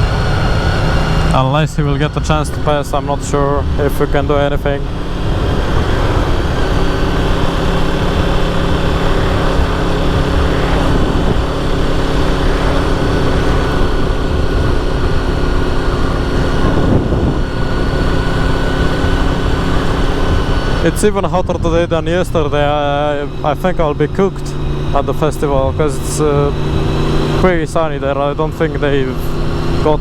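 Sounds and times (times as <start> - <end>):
heavy wind rush: 0.0 - 30.0
motorcycle engine running: 0.0 - 30.0.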